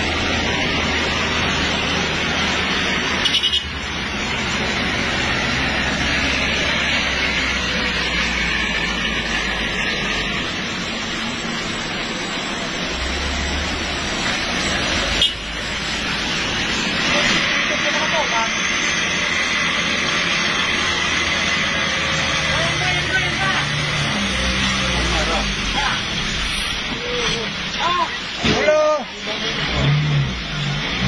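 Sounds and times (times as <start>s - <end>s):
low engine noise: 0.0s - 31.0s
rain and wet tyres hissing: 0.0s - 31.0s.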